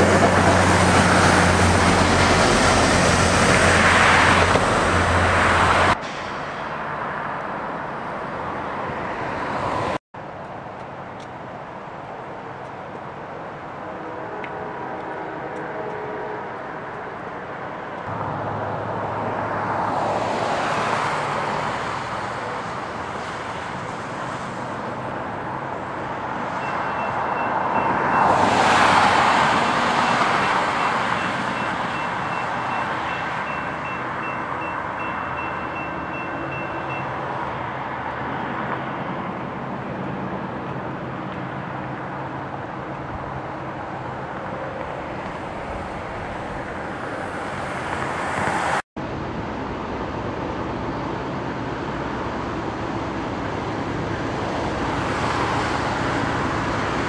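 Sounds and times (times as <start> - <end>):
train rushing: 0.0 - 7.2, 12.2 - 57.0
diesel locomotive engine hum: 0.0 - 57.0.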